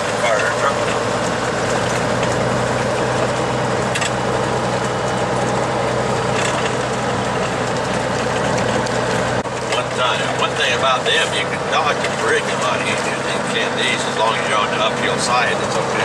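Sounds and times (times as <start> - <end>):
road noise: 0.0 - 16.0
truck diesel engine running: 0.0 - 16.0.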